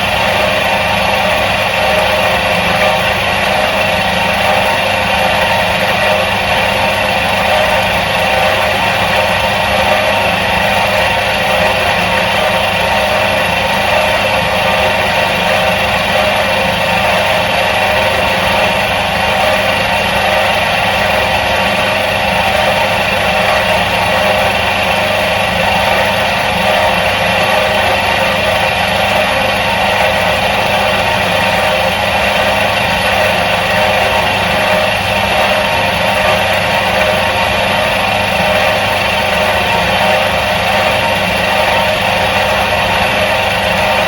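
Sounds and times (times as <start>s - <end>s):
washing machine motor humming: 0.0s - 44.0s.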